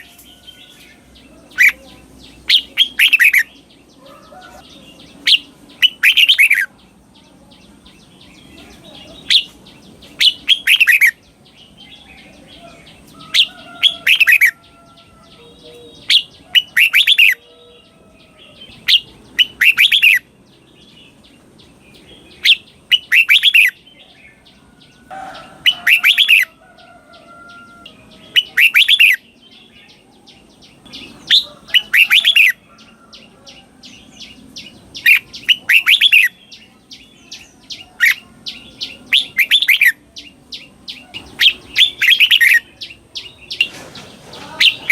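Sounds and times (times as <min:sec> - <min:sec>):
bird singing warbling phrases: 0:00.0 - 0:44.9
faint bird chirping: 0:00.0 - 0:44.9.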